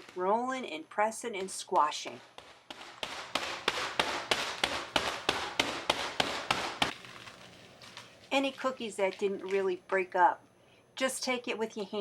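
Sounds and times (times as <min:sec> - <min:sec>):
rolling pin crushing cookies: 0:00.0 - 0:10.1.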